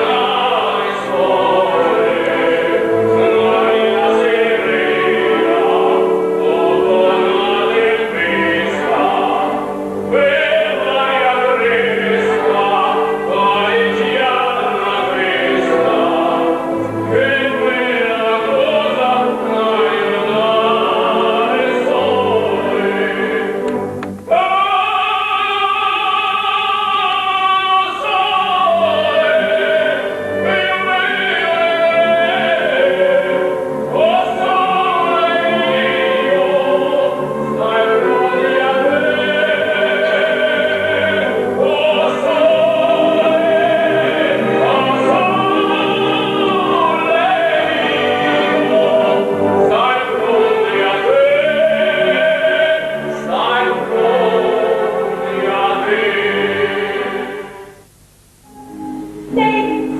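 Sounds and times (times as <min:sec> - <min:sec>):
opera singing: 0:00.0 - 0:57.7, 0:59.2 - 0:59.9.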